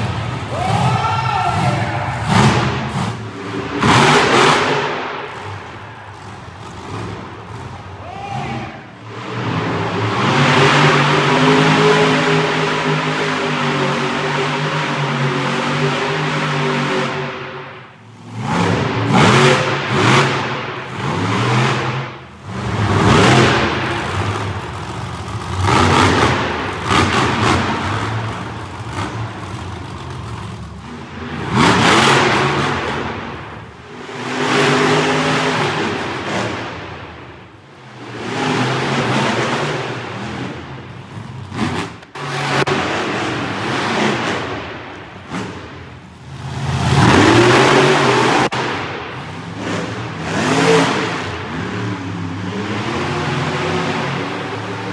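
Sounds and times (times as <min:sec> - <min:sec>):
monster truck engine revving: 0:00.0 - 0:54.9.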